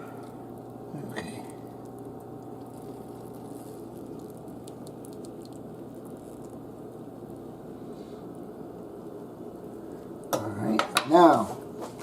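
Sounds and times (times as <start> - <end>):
sauce bubbling and popping: 0.0 - 10.5
steady low hum: 0.0 - 12.0.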